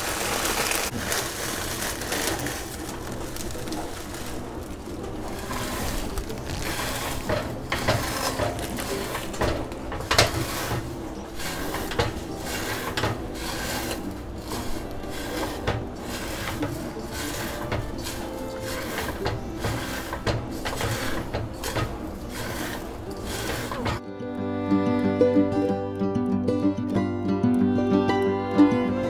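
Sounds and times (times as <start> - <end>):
dry noodles crackling and snapping: 0.0 - 24.0.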